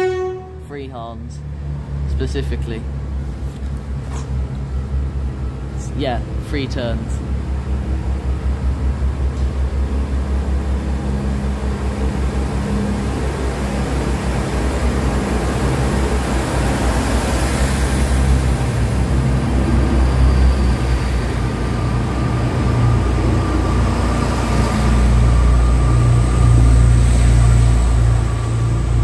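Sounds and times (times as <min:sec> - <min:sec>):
diesel train engines pulling away: 0:00.0 - 0:29.0.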